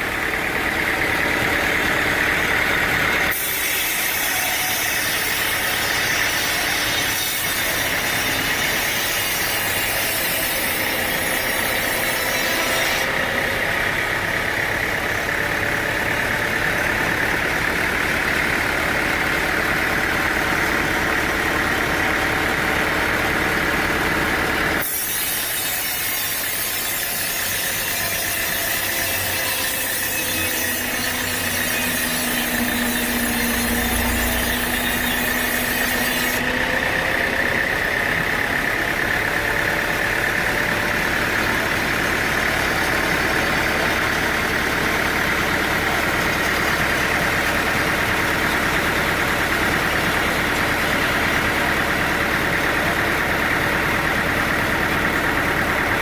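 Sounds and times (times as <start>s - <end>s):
mill engine running: 0.0s - 56.0s
saw grinding through log: 0.0s - 56.0s.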